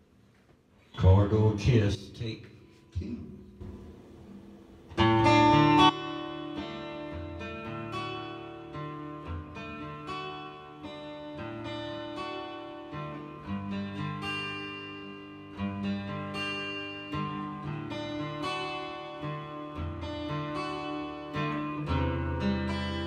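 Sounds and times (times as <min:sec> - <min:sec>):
acoustic guitar strumming: 0:03.6 - 0:23.0.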